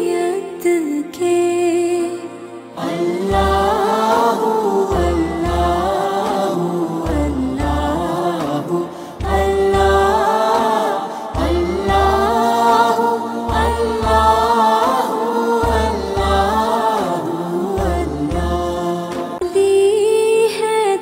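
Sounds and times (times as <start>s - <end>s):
person singing: 0.0s - 21.0s.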